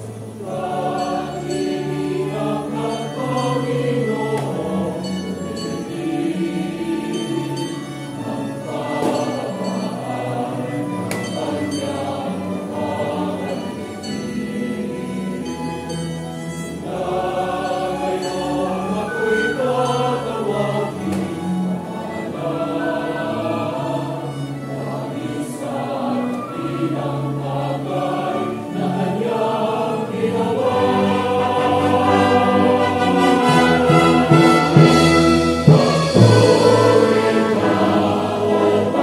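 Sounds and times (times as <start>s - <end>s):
brass ensemble: 0.0s - 39.0s
choir singing: 0.0s - 39.0s
organ: 0.0s - 39.0s
string quartet: 0.0s - 39.0s.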